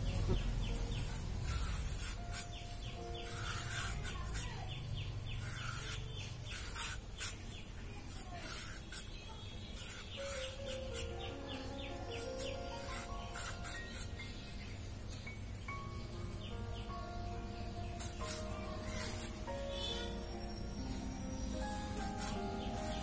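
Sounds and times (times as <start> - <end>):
birds chirping: 0.0 - 7.8, 9.2 - 23.0
high insect-like hiss: 0.7 - 14.4, 16.4 - 23.0.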